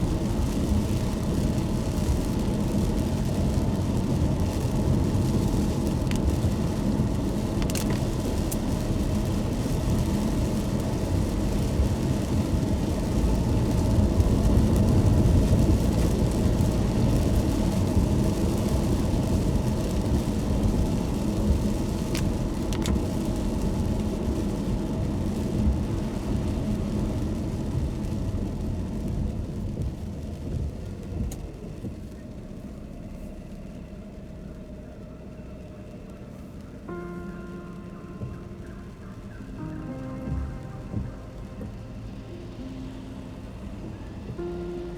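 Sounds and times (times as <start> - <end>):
car tyres and engine rumble: 0.0 - 44.9
tyre hiss on wet road: 0.0 - 44.9.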